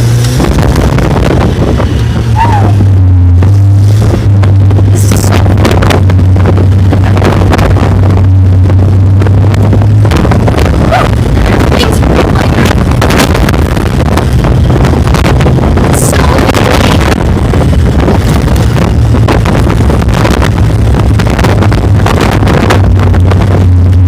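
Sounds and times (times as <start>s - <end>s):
off-road vehicle engine rumbling: 0.0s - 24.0s
wind buffeting microphone: 0.0s - 24.0s.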